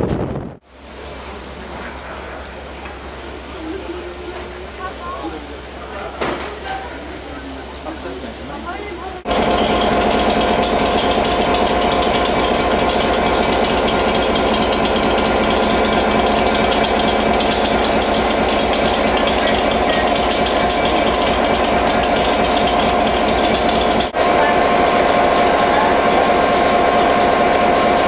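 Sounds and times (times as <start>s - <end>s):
diesel locomotive engine throbbing: 0.0s - 28.0s.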